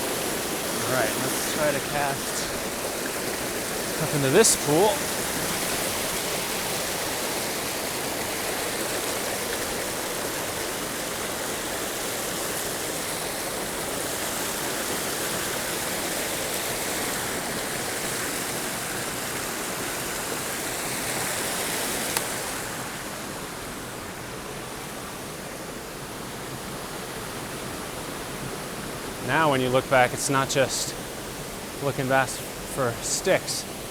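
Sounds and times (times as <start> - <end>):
water rushing over rocks: 0.0 - 33.9.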